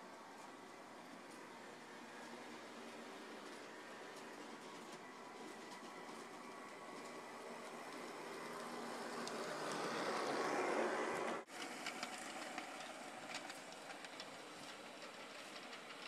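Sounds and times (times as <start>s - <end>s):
model cable car motor running: 0.0s - 16.0s
model train running on track: 0.0s - 16.0s
wheels clicking over track: 0.0s - 16.0s.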